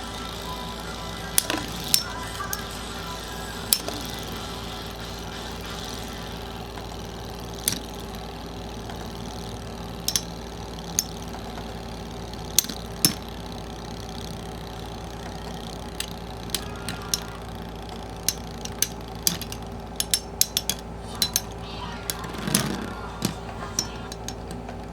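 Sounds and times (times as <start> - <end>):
spinning tops clacking metallically: 0.0 - 24.9
spinning tops humming: 0.0 - 24.9.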